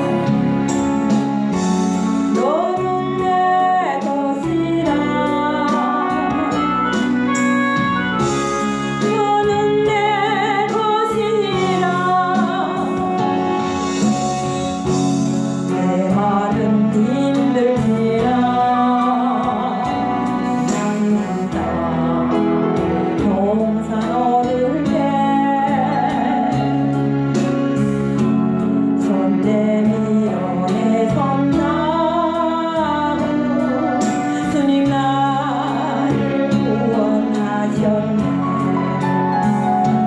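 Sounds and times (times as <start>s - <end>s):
gospel praise music: 0.0s - 40.0s.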